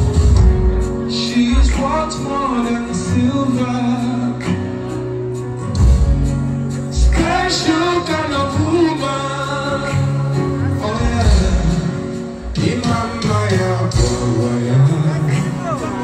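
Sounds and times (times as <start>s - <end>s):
band playing live: 0.0s - 16.0s
man singing into a microphone: 1.0s - 5.0s, 6.8s - 16.0s.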